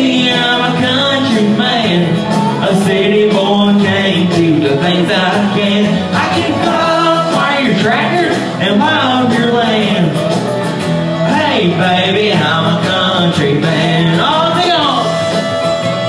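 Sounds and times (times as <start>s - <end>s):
instrumental accompaniment: 0.0s - 16.0s
man singing country song: 0.0s - 16.0s.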